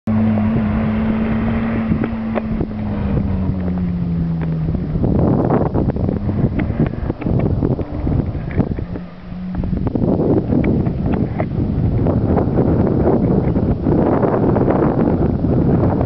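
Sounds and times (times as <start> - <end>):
car engine running hard: 0.0 - 16.0
wind on microphone: 0.1 - 16.0.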